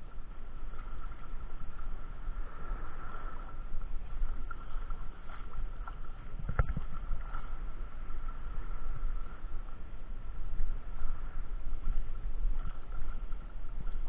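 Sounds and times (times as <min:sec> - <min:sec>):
wind and water buffeting microphone: 0:00.0 - 0:14.0.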